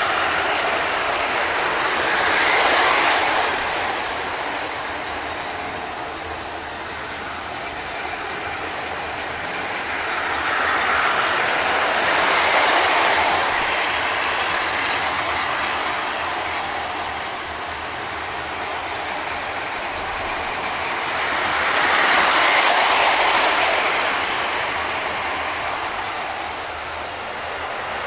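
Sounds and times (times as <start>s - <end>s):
model trains whirring on track: 0.0s - 28.0s.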